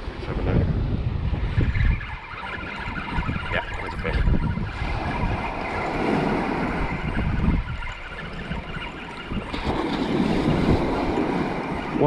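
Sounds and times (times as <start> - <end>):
surf on beach: 0.0 - 12.0
wind buffeting microphone: 0.0 - 12.0.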